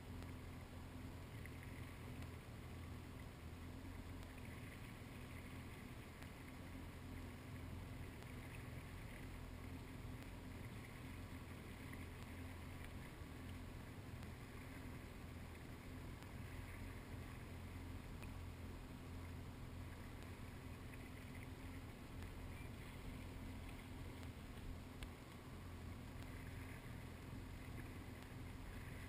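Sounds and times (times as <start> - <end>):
jet ski engine drone: 0.0 - 29.0.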